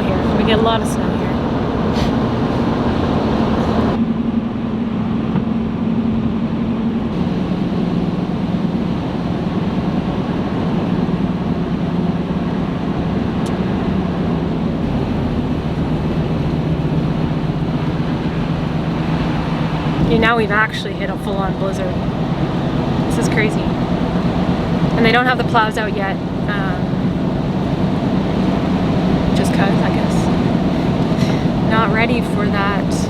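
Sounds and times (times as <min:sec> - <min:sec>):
road noise rumble: 0:00.0 - 0:33.0
van engine hum: 0:00.0 - 0:33.0.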